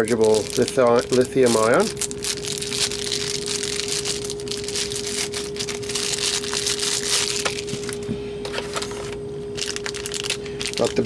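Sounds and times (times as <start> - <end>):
plastic bag crinkling: 0.0 - 11.0
steady hum: 0.0 - 11.0.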